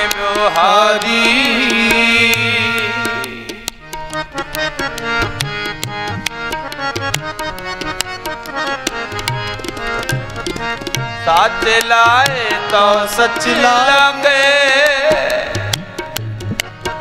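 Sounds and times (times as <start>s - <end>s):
harmoniums playing melody: 0.0s - 17.0s
tabla rhythm: 0.0s - 17.0s.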